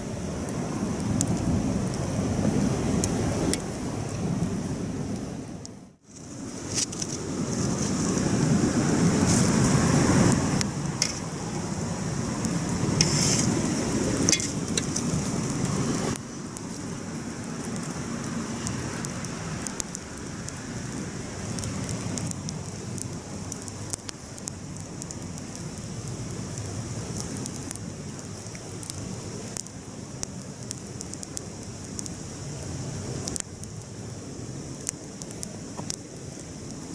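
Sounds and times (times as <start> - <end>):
campfire crackling and popping: 0.1 - 36.9.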